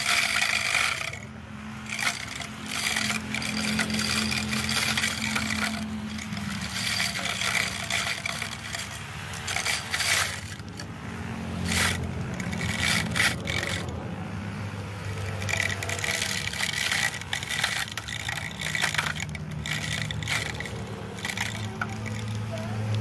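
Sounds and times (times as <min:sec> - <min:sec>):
blade scraping grass: 0:00.0 - 0:10.9, 0:11.5 - 0:14.0, 0:15.2 - 0:23.0
small electric motor whirring: 0:00.0 - 0:14.0, 0:14.7 - 0:23.0.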